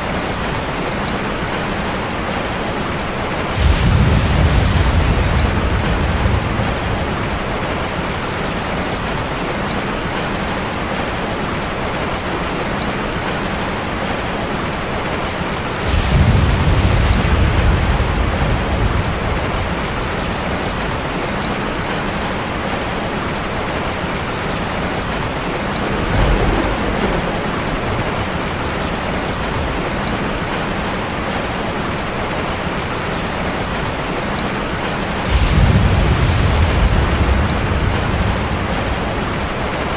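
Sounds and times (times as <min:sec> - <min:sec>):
steady rain: 0:00.0 - 0:39.9
thunder rumbling: 0:01.5 - 0:10.2, 0:13.1 - 0:32.3, 0:34.6 - 0:39.9.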